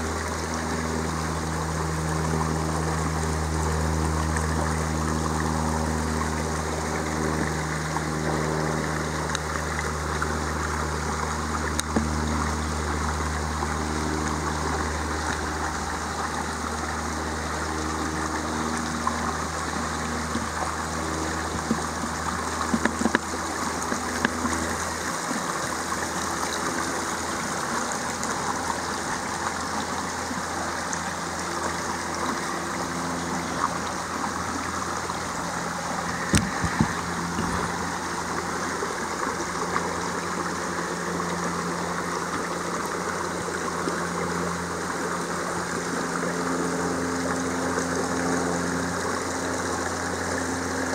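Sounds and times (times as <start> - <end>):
creek water trickling over stones: 0.0 - 50.9
low hum: 0.0 - 50.9.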